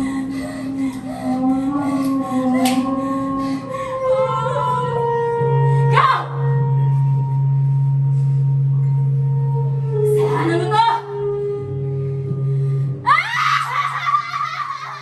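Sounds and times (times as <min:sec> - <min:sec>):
high held tones: 0:00.0 - 0:15.0
low droning hum: 0:00.0 - 0:15.0.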